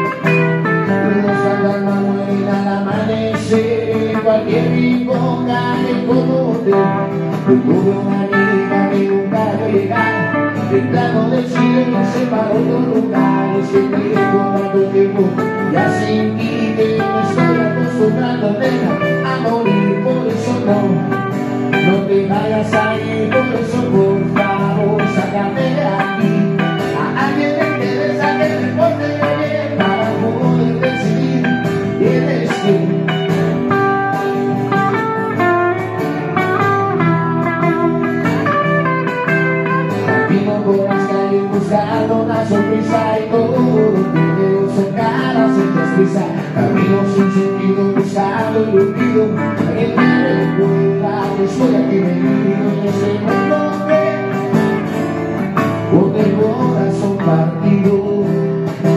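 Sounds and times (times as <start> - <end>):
plucked acoustic guitar: 0.0 - 58.9
steady bass line: 0.0 - 58.9.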